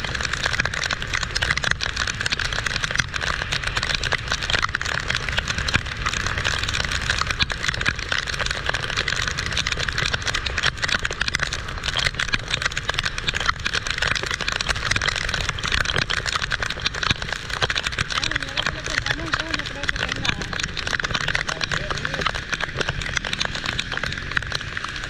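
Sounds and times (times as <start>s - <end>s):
heavy rain pouring: 0.0s - 25.0s
low rumble: 0.0s - 25.0s.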